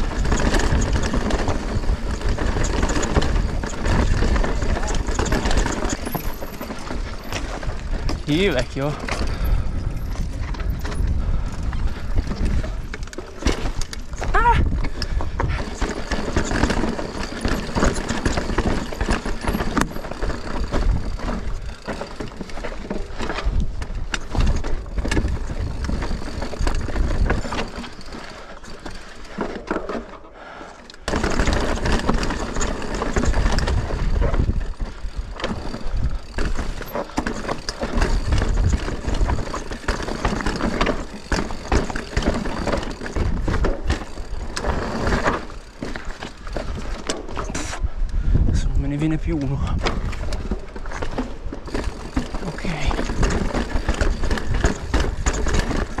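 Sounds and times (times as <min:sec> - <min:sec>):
bike rattling over bumps: 0:00.0 - 0:56.0
bike tyres rolling over stone: 0:00.0 - 0:56.0.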